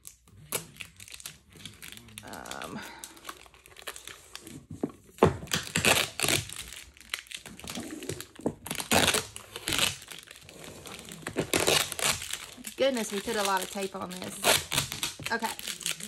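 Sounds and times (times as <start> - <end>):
tape crinkling and rustling: 0.0 - 16.0
tape ripping: 0.0 - 16.0.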